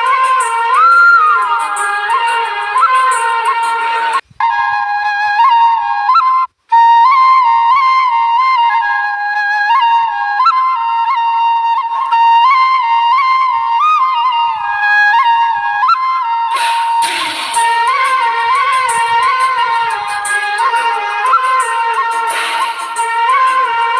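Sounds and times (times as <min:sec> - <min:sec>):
solo flute melody: 0:00.0 - 0:23.9.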